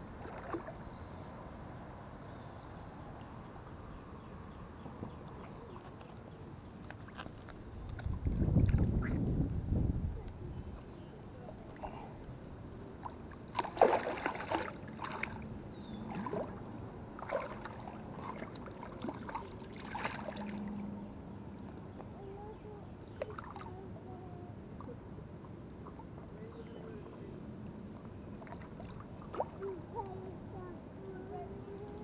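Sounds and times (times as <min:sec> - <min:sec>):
water lapping at bank: 0:00.0 - 0:01.8, 0:04.6 - 0:09.3, 0:10.2 - 0:31.8.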